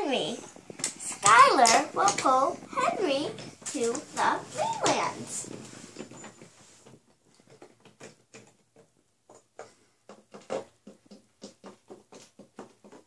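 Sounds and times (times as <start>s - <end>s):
toys clicking and tapping: 0.3s - 5.6s, 7.0s - 13.0s.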